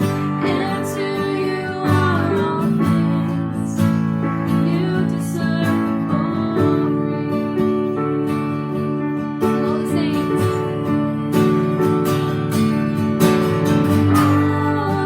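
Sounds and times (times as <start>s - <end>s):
strummed guitar chords: 0.0s - 15.0s.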